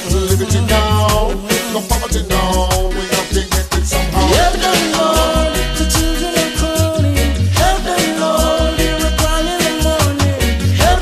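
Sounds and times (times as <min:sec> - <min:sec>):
instrumental reggae music: 0:00.0 - 0:11.0.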